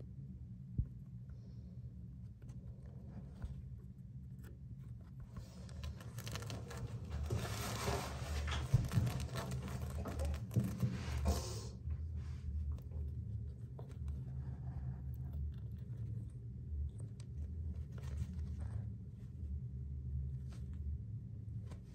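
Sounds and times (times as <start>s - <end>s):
low steady hum: 0.0s - 21.9s
hamster scratching in cloth: 2.2s - 20.9s.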